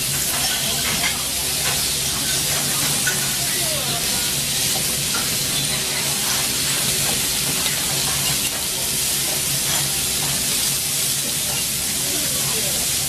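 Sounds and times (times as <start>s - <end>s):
meat sizzling on a griddle: 0.0s - 13.0s.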